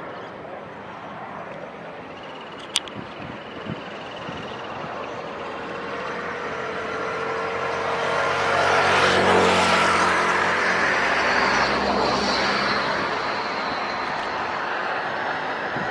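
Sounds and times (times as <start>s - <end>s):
high engine whine: 0.0s - 15.9s
jet engines roaring overhead: 0.0s - 15.9s.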